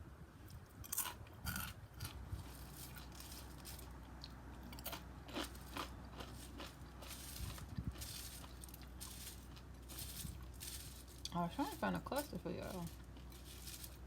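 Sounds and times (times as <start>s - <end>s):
cereal crunching: 0.8s - 14.0s.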